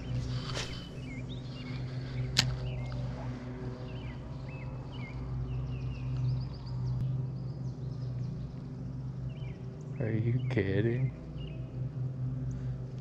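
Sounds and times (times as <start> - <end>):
small birds chirping: 0.0 - 12.8
low outdoor background: 0.0 - 13.0.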